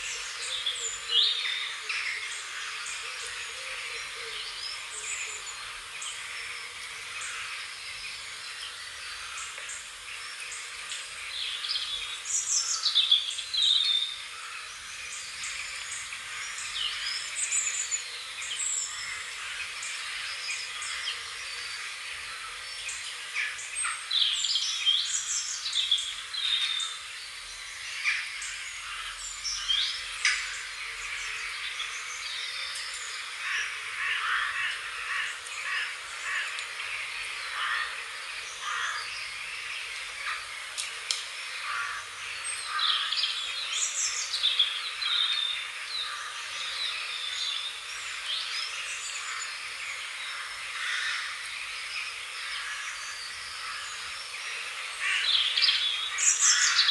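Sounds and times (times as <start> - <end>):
birds chirping and calling: 0.0 - 56.9.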